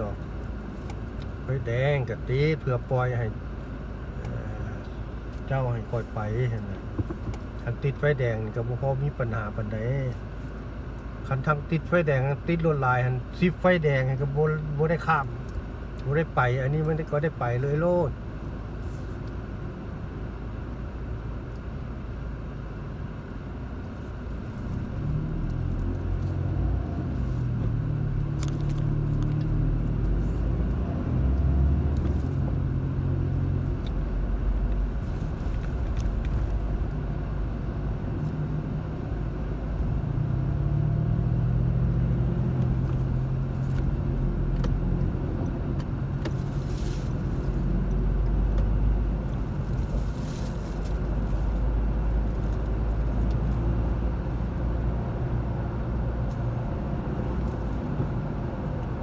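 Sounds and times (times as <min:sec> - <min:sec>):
car engine humming: 0:00.0 - 0:59.0
road noise: 0:00.0 - 0:59.0.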